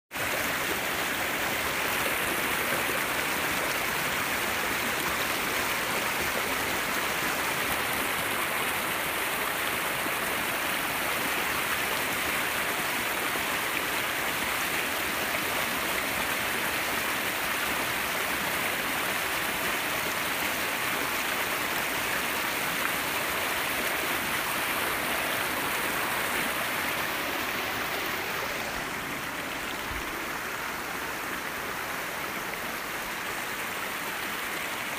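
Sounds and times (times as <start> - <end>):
flowing water rushing: 0.1 - 34.9.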